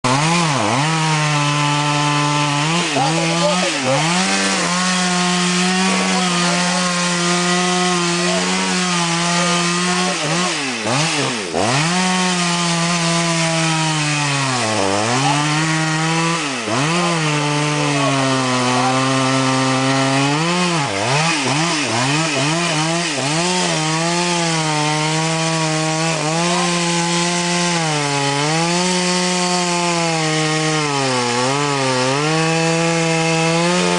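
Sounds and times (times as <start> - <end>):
chainsaw cutting timber: 0.0 - 33.9.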